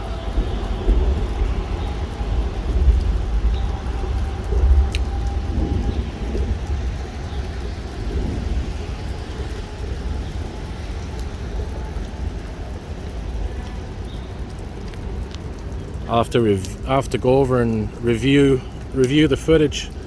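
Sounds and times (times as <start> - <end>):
low thunder rumble: 0.0 - 20.0
rain falling: 0.0 - 20.0.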